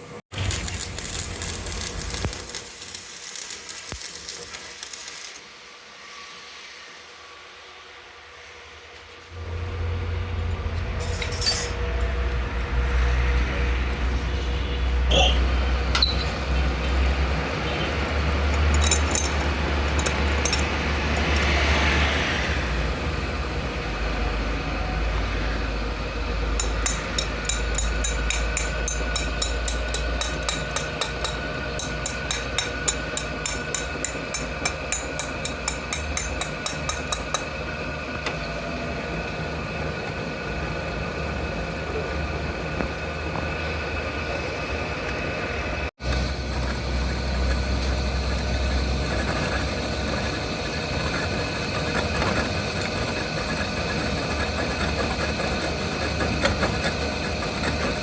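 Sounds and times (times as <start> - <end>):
workshop machinery humming: 0.0 - 5.4, 9.3 - 58.0.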